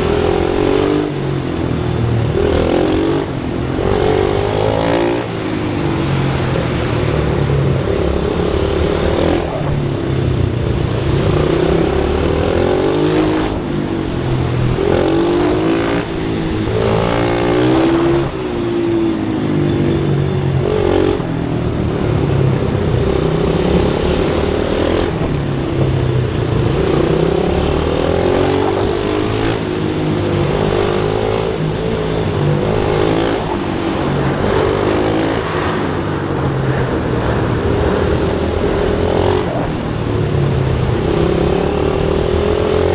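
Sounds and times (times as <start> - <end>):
small motorbike engine revving: 0.0 - 42.9.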